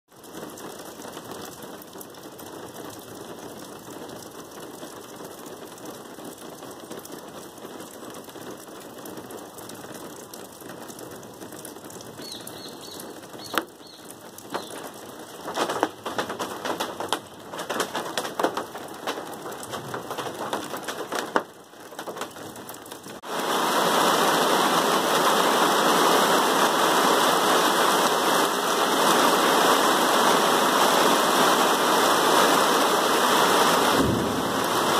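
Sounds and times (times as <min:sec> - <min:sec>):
heavy rain pouring: 0:00.1 - 0:34.9
rain hissing: 0:00.2 - 0:34.9.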